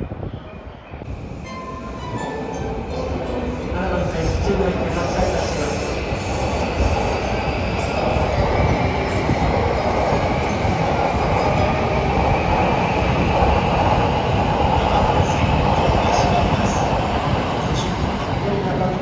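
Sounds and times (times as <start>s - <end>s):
electric train wheels rumbling: 1.1s - 19.0s.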